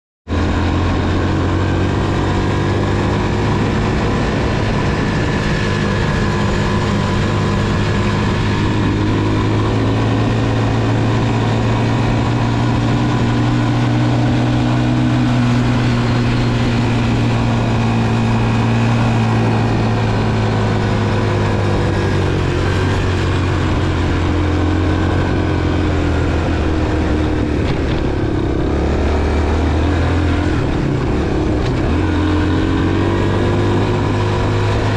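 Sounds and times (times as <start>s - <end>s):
motorcycle engine cruising: 0.3s - 34.9s.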